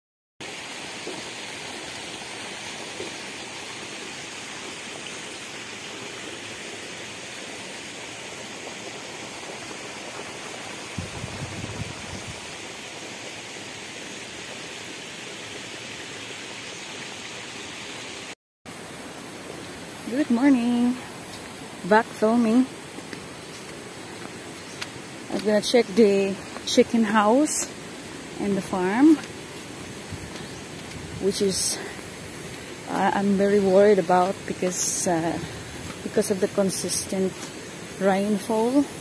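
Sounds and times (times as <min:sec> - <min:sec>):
water rushing: 0:00.4 - 0:39.0.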